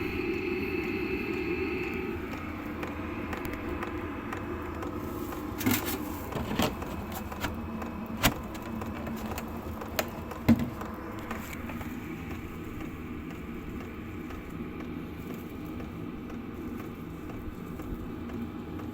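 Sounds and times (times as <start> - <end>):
diesel air heater running: 0.0 - 18.9.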